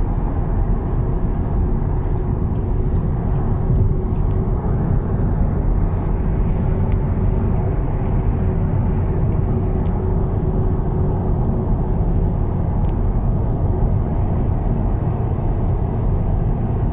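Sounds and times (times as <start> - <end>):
car road noise rumble: 0.0 - 16.9.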